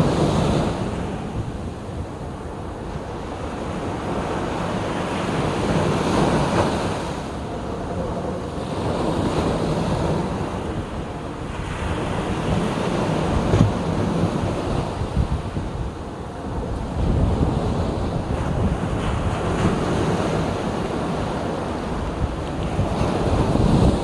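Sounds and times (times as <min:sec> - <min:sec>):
sea waves breaking on shore: 0:00.0 - 0:24.0
wind buffeting microphone: 0:00.0 - 0:24.0.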